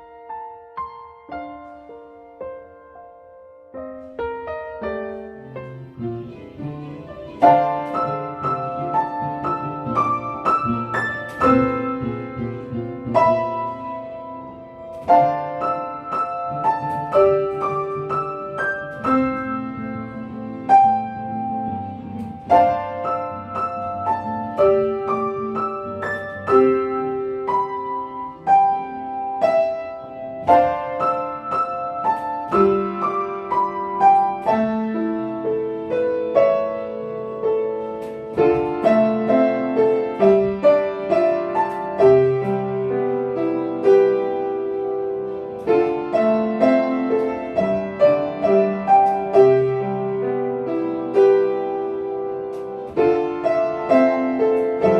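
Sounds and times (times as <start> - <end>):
solo piano melody: 0.0 - 54.9.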